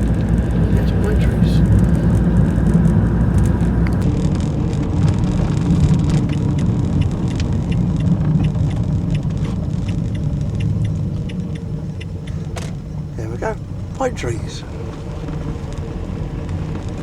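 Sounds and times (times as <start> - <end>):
van engine and road rumble: 0.0 - 17.0
light regular ticking: 1.6 - 17.0.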